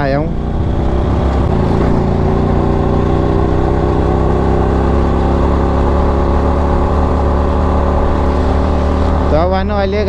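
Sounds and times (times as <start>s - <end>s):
motorcycle engine cruising: 0.0s - 10.0s.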